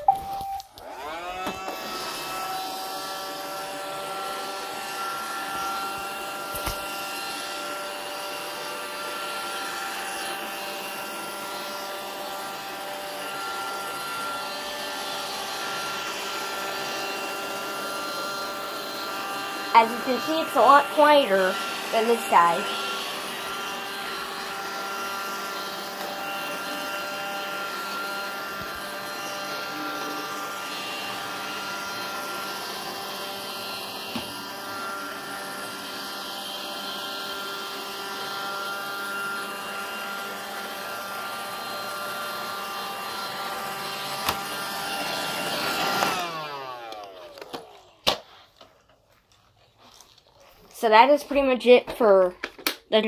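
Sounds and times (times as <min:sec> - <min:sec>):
robot vacuum whining: 0:00.0 - 0:52.8.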